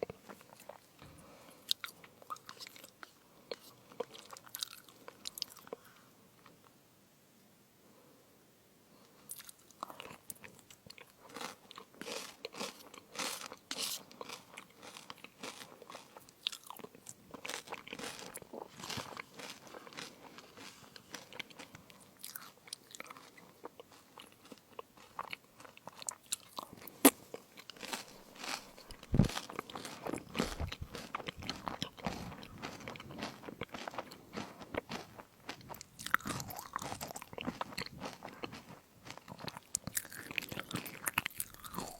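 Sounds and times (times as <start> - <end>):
crunching and chewing crisps: 0.0 - 6.6, 9.2 - 41.9.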